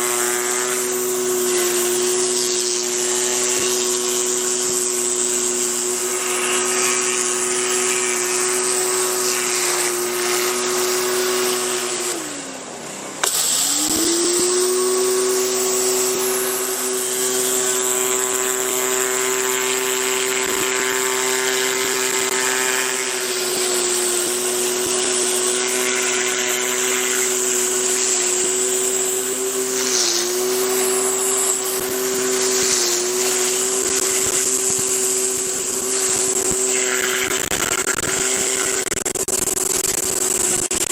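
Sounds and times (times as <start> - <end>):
water spray hiss: 0.0 - 12.4, 13.2 - 40.9
pressure washer motor running: 0.0 - 40.9.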